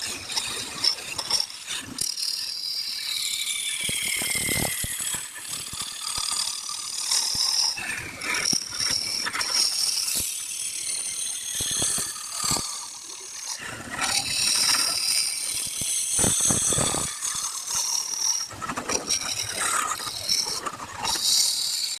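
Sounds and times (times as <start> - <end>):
wood lathe turning tool scraping: 0.0 - 22.0.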